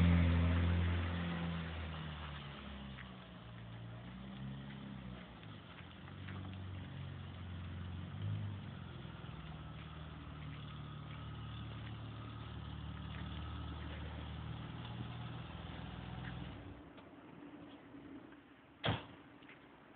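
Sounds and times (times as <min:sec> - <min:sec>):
car engine idling: 0:00.0 - 0:16.8.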